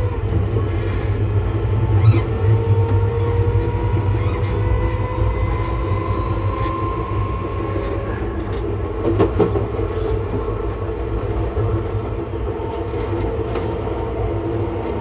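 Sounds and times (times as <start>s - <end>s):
traction motor hum: 0.0s - 15.0s
train wheels rumbling: 0.0s - 15.0s.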